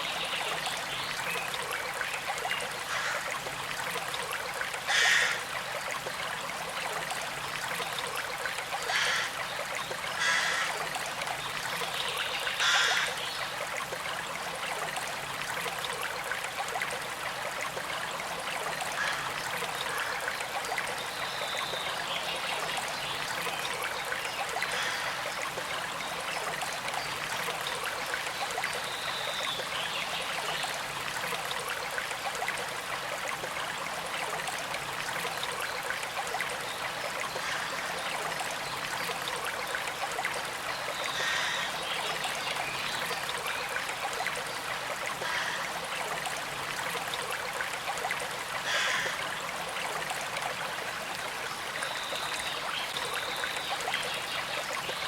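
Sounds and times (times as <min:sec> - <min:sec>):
creek flowing over stones: 0:00.0 - 0:55.0.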